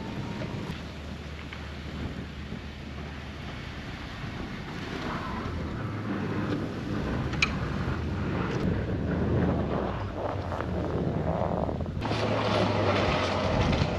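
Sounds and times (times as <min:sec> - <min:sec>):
wind noise: 0:00.0 - 0:13.9.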